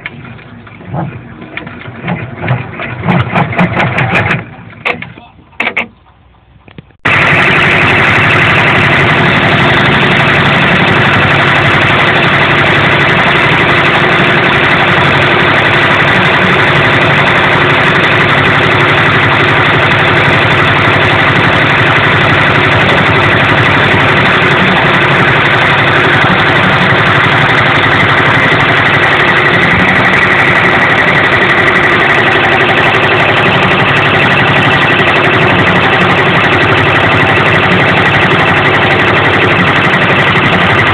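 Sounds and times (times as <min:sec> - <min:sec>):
embroidery machine stitching: 0:07.1 - 0:40.9.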